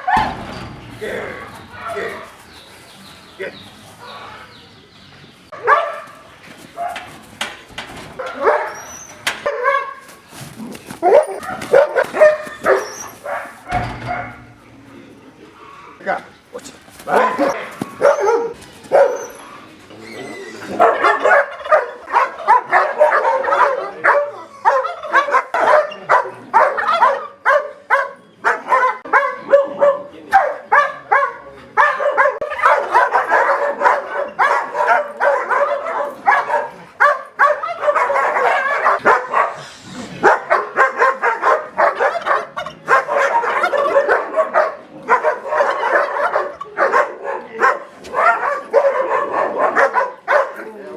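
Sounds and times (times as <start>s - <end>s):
dogs yelping: 0.0s - 2.4s, 8.1s - 14.4s, 17.1s - 50.8s
dogs barking aggressively: 0.0s - 4.8s, 5.4s - 14.9s, 15.7s - 19.8s, 20.6s - 50.9s.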